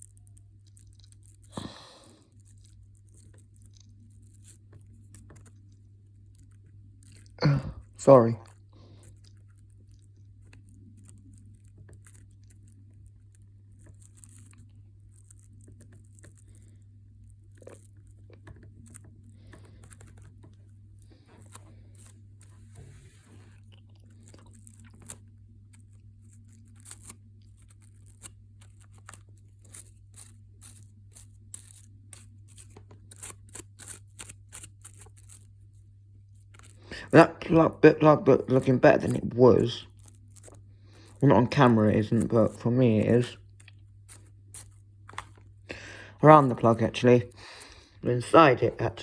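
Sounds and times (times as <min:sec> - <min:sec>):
toothbrush scratching plastic: 0:00.0 - 0:07.4, 0:08.0 - 0:45.5
low steady hum: 0:00.0 - 0:49.0.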